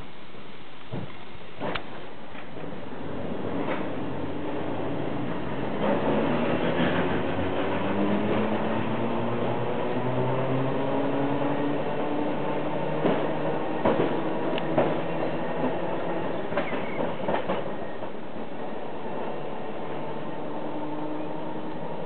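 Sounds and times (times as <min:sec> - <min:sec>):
tram mechanical hum: 0:00.9 - 0:22.0.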